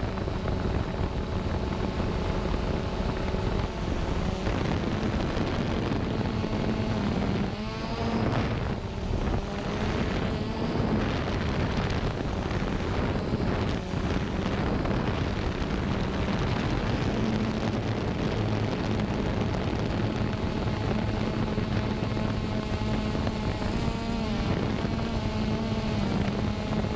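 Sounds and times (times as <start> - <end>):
drone motors whirring: 0.0 - 26.9
wind noise: 0.0 - 26.9.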